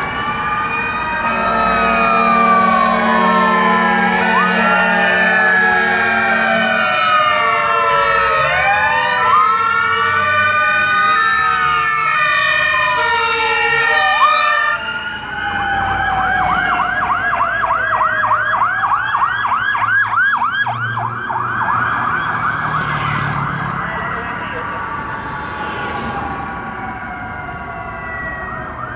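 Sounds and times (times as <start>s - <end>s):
fire engine sirens wailing: 0.0s - 28.9s
siren fast yelp: 0.0s - 28.9s
truck engines running: 0.0s - 28.9s.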